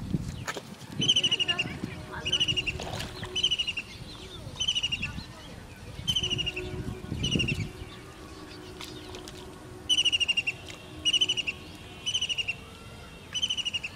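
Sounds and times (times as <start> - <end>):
bird calling in fast trills: 1.0 - 13.9.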